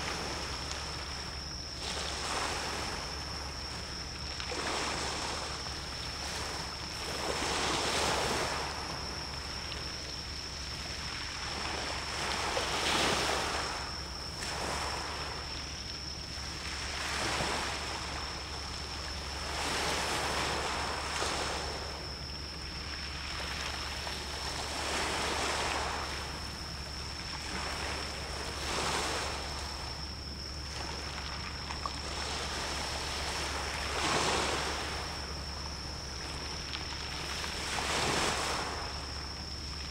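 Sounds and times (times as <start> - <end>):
sea waves washing in: 0.0 - 39.9
steady low hum: 0.0 - 39.9.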